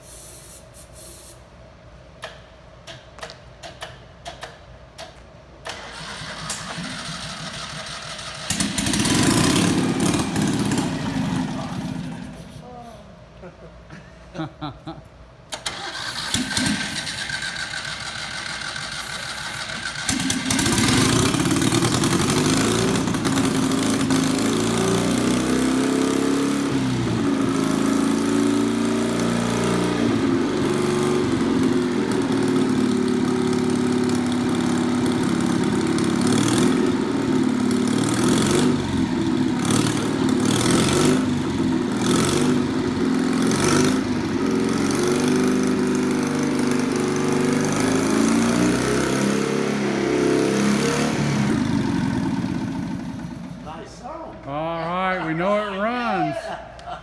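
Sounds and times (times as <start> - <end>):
motorcycle engine starting and running: 3.6 - 12.6, 15.5 - 53.6.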